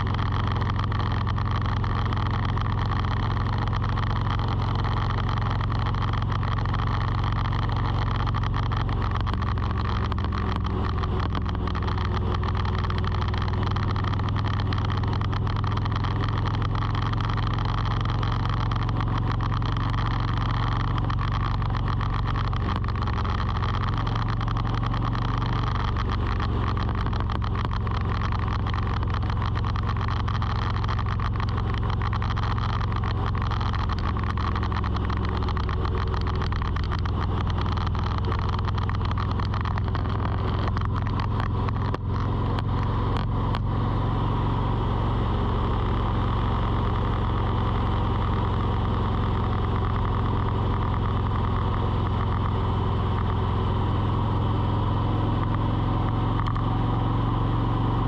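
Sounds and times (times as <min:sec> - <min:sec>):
low engine hum: 0:00.0 - 0:58.0
small ticks: 0:00.0 - 0:58.0.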